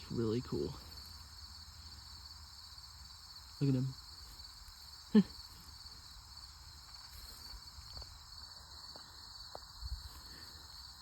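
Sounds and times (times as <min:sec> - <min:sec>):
insects singing in grass: 0:00.0 - 0:11.0.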